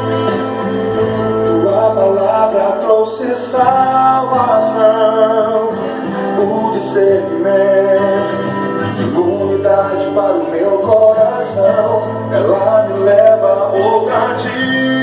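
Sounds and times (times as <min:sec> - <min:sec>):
gospel pop band playing: 0:00.0 - 0:15.0
man singing: 0:01.2 - 0:15.0.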